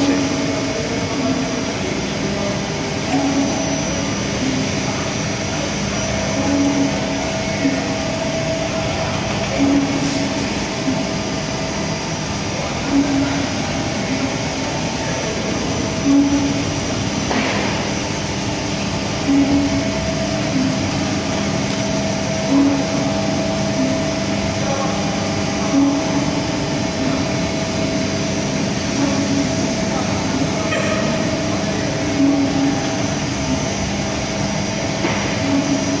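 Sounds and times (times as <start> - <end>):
sieving machine droning: 0.0 - 36.0.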